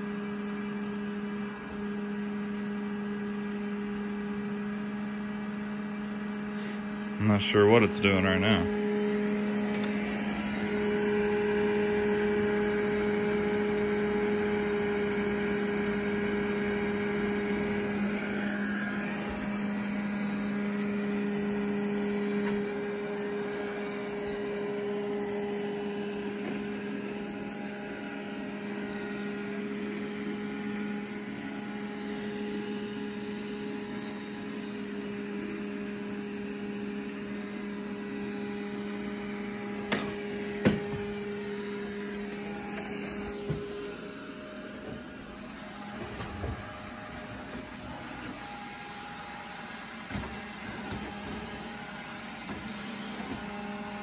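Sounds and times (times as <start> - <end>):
robot vacuum running on carpet: 0.0 - 54.0.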